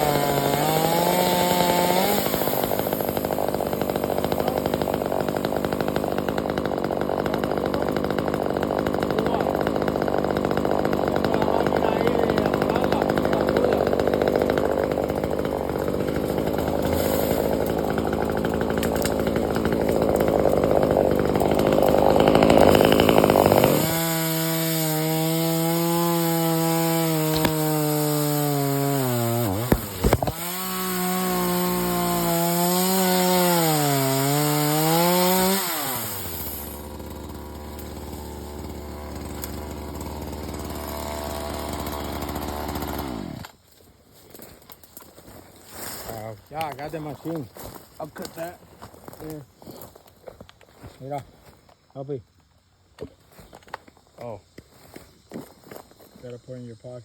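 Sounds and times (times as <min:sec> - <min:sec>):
chainsaw revving and idling: 0:00.0 - 0:43.6, 0:46.1 - 0:49.4
chainsaw cutting wood: 0:00.0 - 0:43.7, 0:44.3 - 0:50.1.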